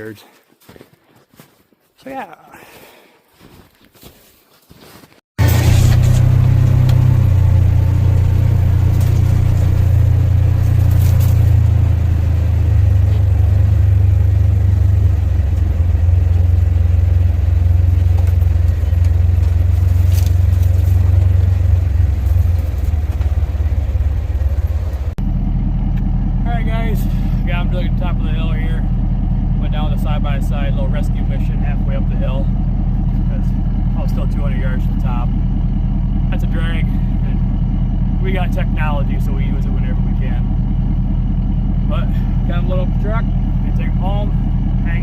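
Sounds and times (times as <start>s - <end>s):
utility vehicle engine driving: 5.4s - 45.0s.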